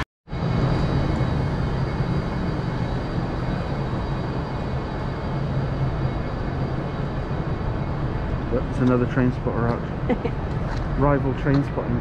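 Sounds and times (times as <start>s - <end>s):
train humming: 0.0s - 12.0s
faint high whining tones: 0.3s - 12.0s.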